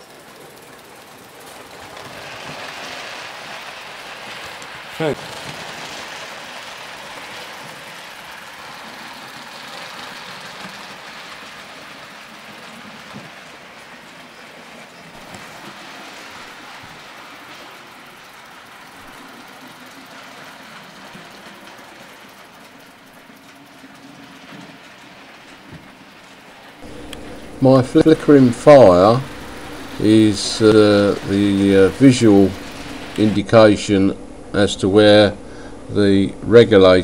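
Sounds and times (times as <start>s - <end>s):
model steam locomotive running: 0.0s - 37.0s
wheels clicking on track: 0.0s - 37.0s.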